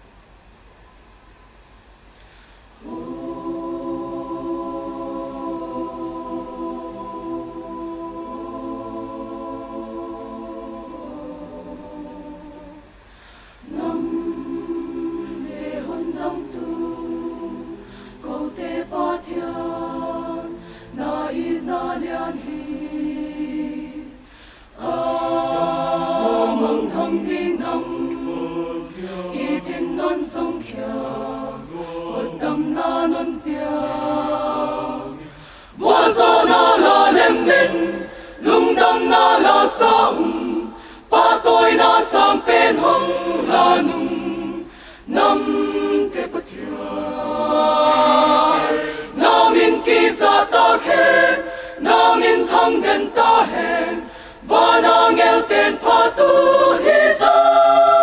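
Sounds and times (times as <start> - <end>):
choir singing a hymn: 2.8 - 58.0.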